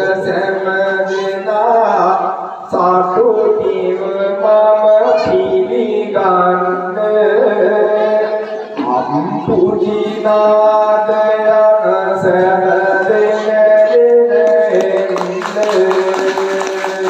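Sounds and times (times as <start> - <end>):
man singing traditional verse: 0.0 - 17.0.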